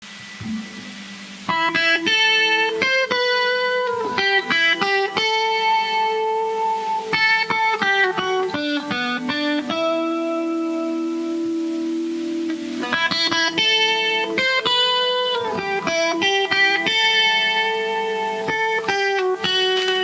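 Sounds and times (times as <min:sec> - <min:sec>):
guitar melody plucked: 0:00.0 - 0:20.0.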